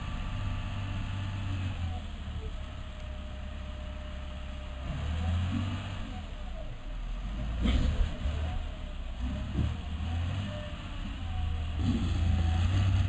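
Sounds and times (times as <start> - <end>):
bulldozer diesel engine revving: 0.0 - 13.0.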